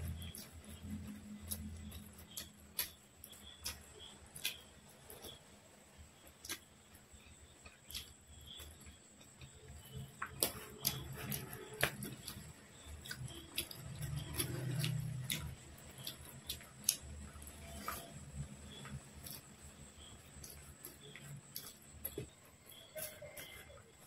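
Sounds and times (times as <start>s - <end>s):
chewing with wet mouth clicks: 0.0s - 5.5s, 6.2s - 24.0s.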